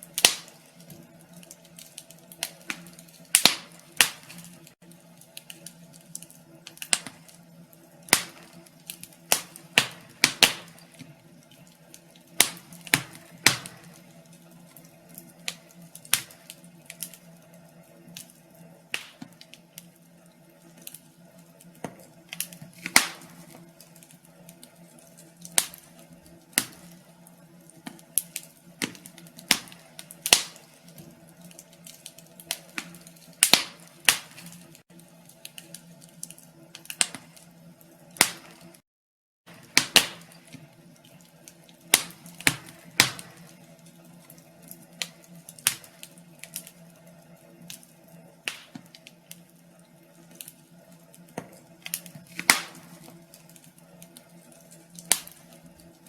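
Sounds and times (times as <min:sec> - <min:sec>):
wood fire crackling: 0:00.0 - 0:38.8, 0:39.5 - 0:56.0.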